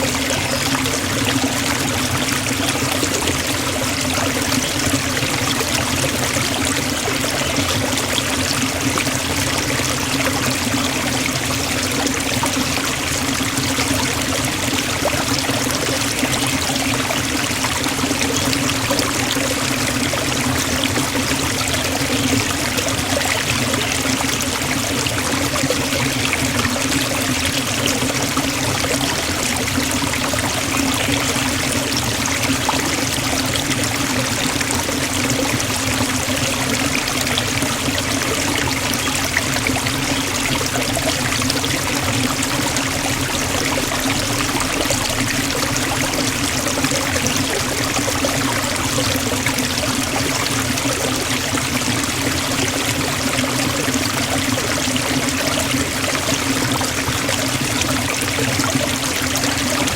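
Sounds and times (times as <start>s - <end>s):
waterfall splashing into pool: 0.0s - 59.9s.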